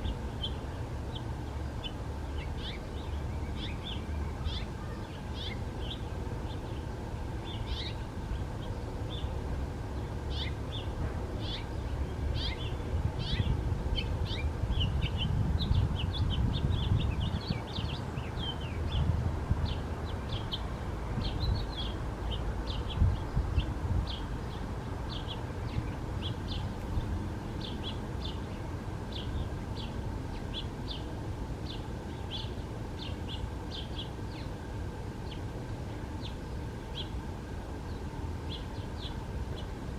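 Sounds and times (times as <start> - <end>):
small birds chirping: 0.0 - 39.8.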